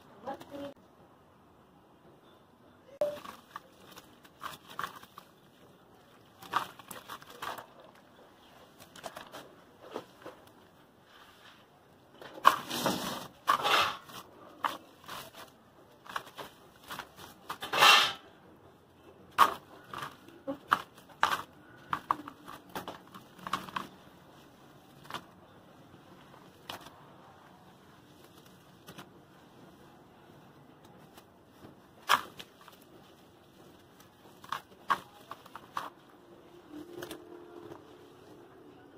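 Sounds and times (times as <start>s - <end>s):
gritty crunching and crackling: 3.1s - 18.4s, 19.0s - 38.8s.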